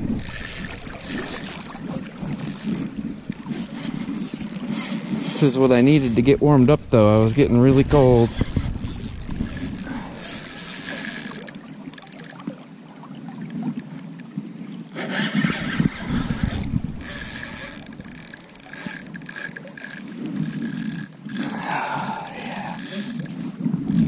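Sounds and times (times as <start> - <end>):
fishing reel whirring and clicking: 0.0 - 12.6, 13.3 - 14.4, 15.3 - 24.0.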